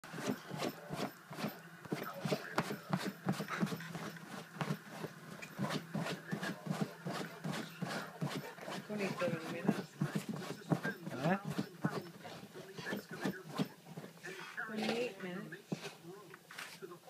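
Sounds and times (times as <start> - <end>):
dog scraping couch cushions: 0.0 - 15.1, 15.7 - 16.0.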